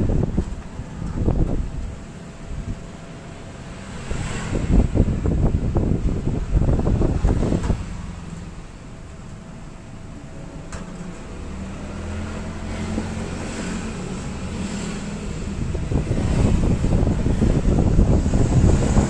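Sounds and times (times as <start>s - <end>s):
rumbling noise on microphone: 0.0s - 19.0s
vehicle engine humming: 0.0s - 19.0s.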